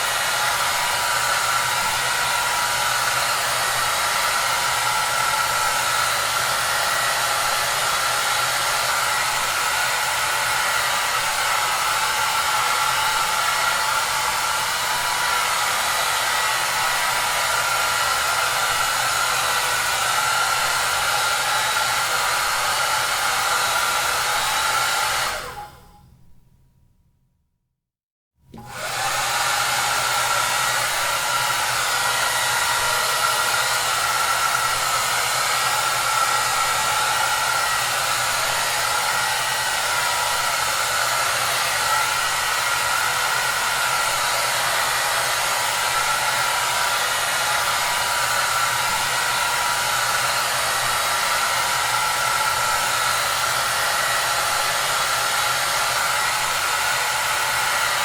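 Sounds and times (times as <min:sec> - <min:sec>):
hair dryer running: 0:00.0 - 0:26.0, 0:28.5 - 0:58.0.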